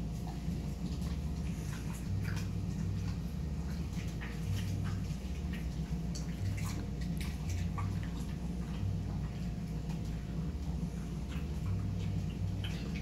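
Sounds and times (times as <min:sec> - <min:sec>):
dog chewing and smacking: 0:00.0 - 0:13.0
steady low hum: 0:00.0 - 0:13.0.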